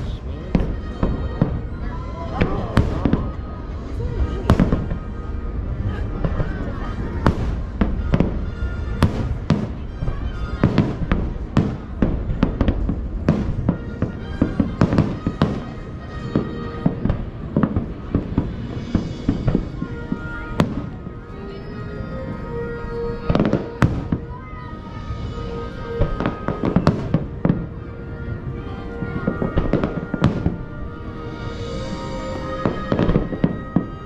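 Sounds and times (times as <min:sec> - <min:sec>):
fireworks bursting: 0:00.0 - 0:34.0
music: 0:00.0 - 0:34.0.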